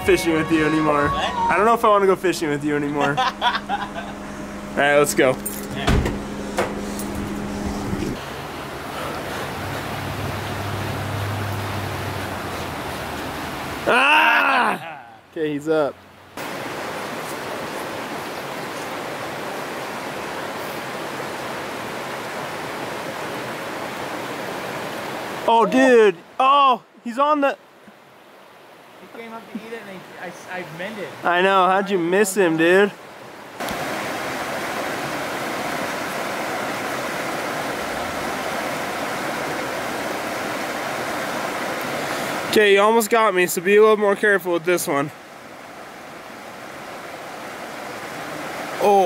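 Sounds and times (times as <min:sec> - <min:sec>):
creek flowing over stones: 0:00.0 - 0:49.0.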